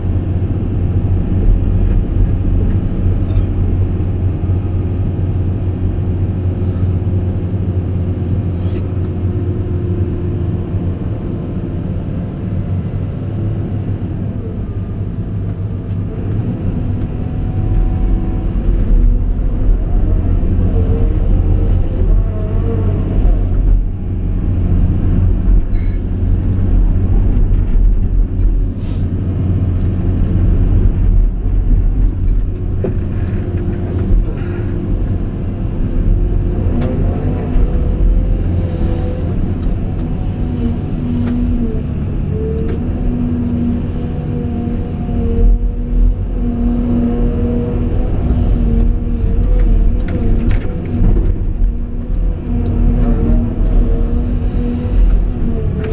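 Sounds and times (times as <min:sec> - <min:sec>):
excavator diesel engine rumbling: 0:00.0 - 0:55.9.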